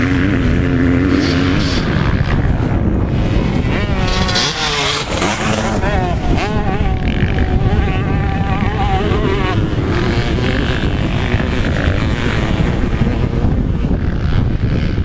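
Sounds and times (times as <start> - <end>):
dirt bike engines revving: 0.0 - 15.0
wind rumble on microphone: 0.0 - 15.0.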